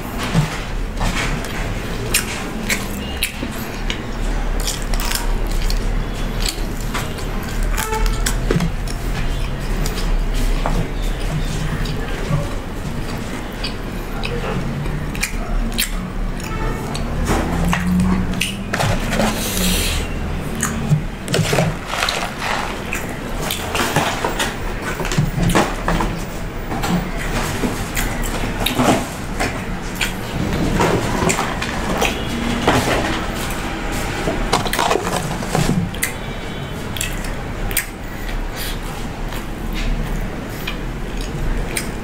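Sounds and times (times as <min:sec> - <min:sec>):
crunchy chewing: 0:00.0 - 0:42.0.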